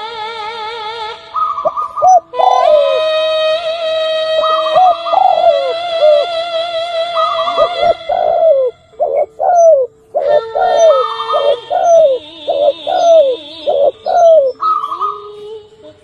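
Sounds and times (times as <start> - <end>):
dove cooing: 1.4 - 3.3, 4.4 - 16.0.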